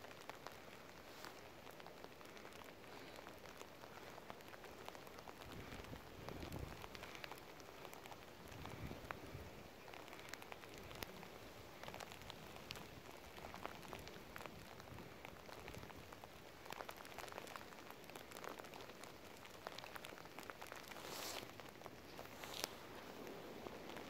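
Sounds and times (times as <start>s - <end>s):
faint steady rain: 0.0s - 24.0s
raindrop ticks: 0.0s - 24.0s.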